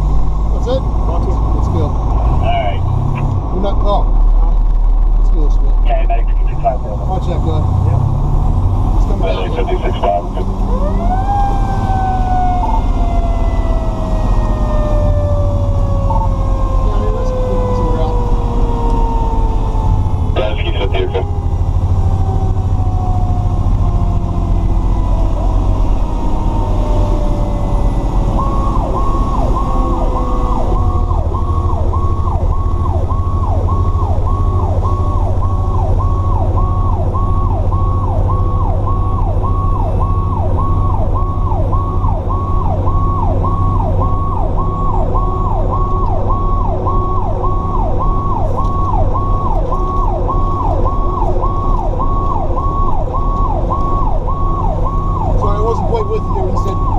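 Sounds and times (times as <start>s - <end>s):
diesel engine drone: 0.0s - 56.9s
electronic siren sweeping: 9.0s - 56.9s
siren tone sliding down: 9.0s - 56.9s.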